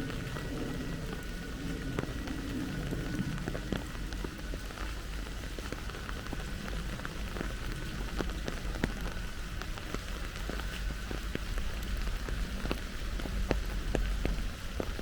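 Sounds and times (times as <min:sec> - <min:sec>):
low steady rumble: 0:00.0 - 0:15.0
raindrops ticking on surfaces: 0:00.0 - 0:15.0
steady rain hissing: 0:00.0 - 0:15.0.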